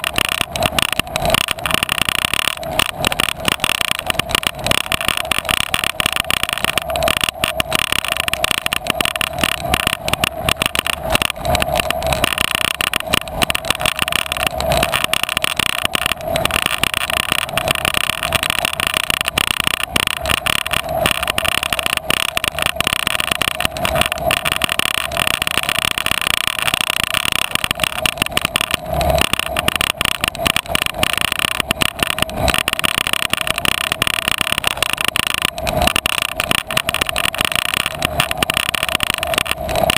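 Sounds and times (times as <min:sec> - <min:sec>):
wind and rolling hum: 0:00.0 - 0:39.9.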